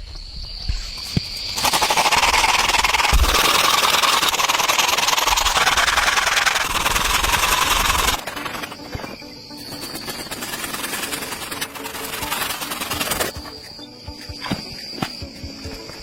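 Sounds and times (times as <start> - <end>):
small motor buzzing: 1.1 - 14.6.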